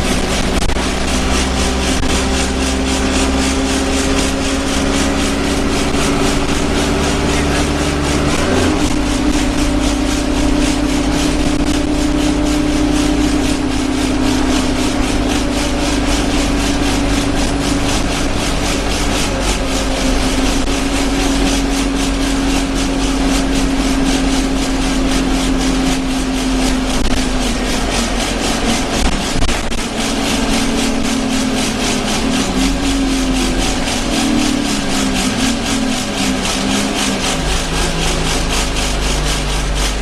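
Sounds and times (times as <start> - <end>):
bodywork rattling: 0.0 - 40.0
bus engine drone: 0.0 - 40.0.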